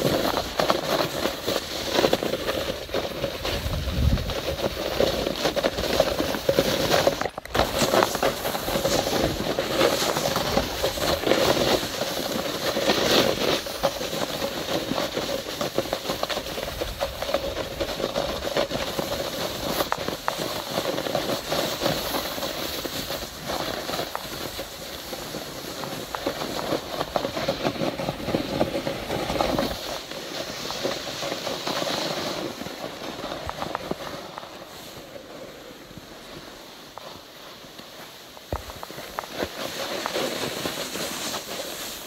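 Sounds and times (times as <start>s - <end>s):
snowboard scraping over snow: 0.0s - 42.0s.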